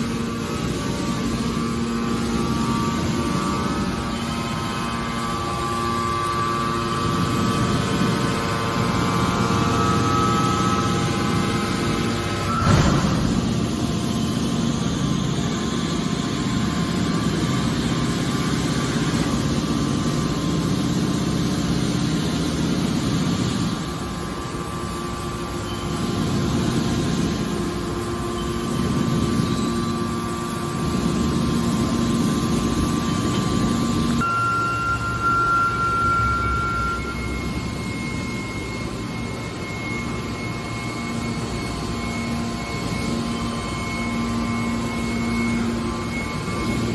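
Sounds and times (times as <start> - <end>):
faint constant whine: 0.0 - 46.9
hydraulic power unit humming: 0.0 - 46.9.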